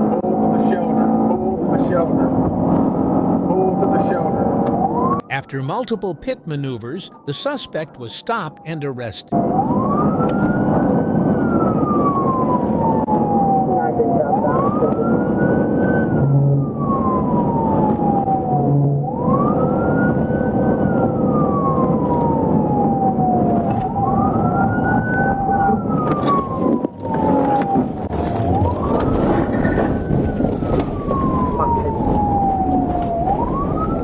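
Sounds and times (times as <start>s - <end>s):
police siren wailing: 3.8s - 34.0s.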